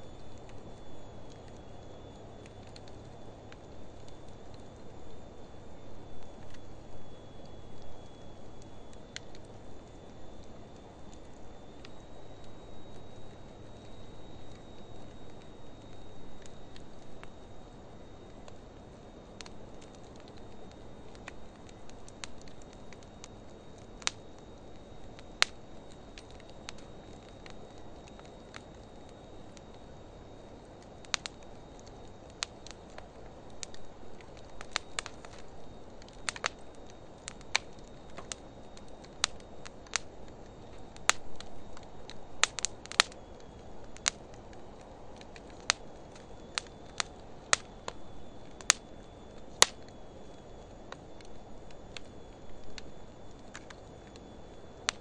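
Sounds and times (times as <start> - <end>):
fire crackling and popping: 0.0 - 55.0
low rush of flames: 0.0 - 55.0.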